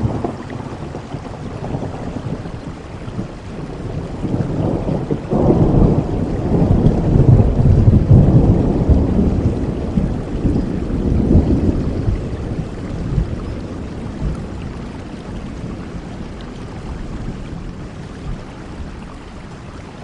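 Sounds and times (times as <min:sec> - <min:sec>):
rolling thunder: 0:00.0 - 0:19.0
steady rain: 0:00.0 - 0:20.0.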